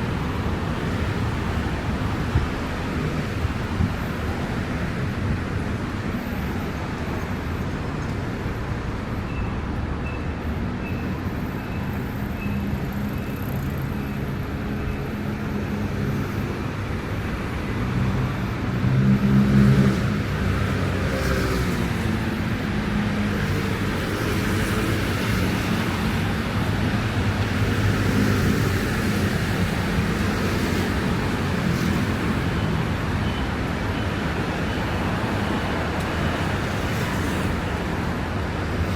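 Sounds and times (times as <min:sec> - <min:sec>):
hum of cars on wet road: 0:00.0 - 0:38.9.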